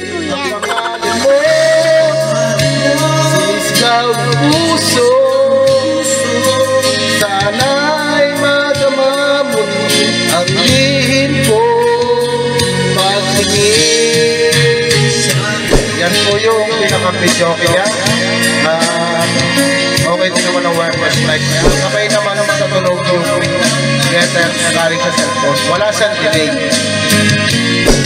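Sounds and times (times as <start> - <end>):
karaoke song over speaker: 0.0 - 28.0.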